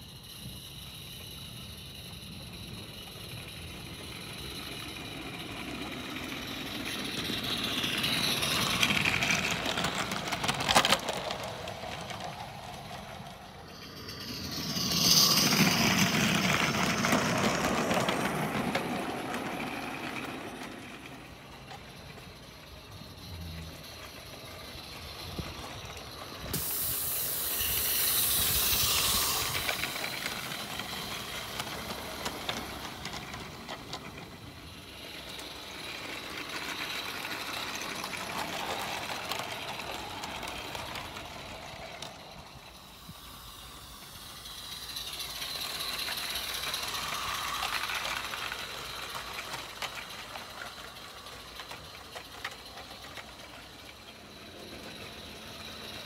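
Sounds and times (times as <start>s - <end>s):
steam hissing: 0.0s - 56.0s
wagon wheels rattling over rails: 1.4s - 56.0s.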